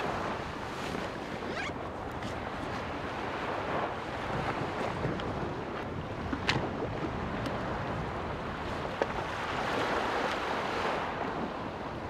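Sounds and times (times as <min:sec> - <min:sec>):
waves: 0:00.0 - 0:12.0
wind: 0:00.0 - 0:12.0.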